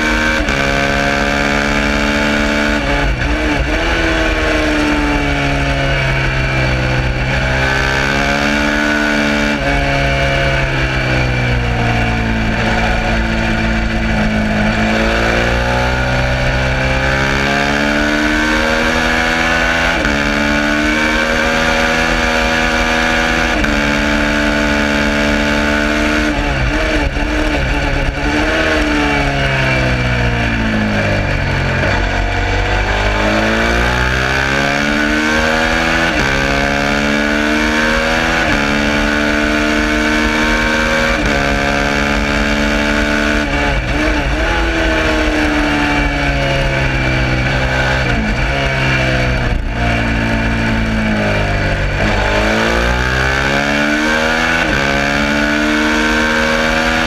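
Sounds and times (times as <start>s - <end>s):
racing motorcycle engine: 0.0s - 57.0s
steady rushing noise: 0.0s - 57.0s.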